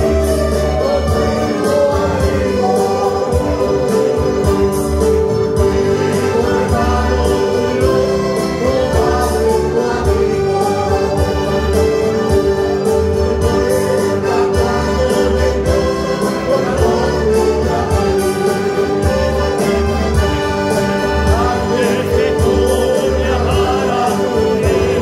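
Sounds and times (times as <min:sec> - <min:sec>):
band accompaniment with beat: 0:00.0 - 0:25.0
choir singing: 0:00.0 - 0:25.0.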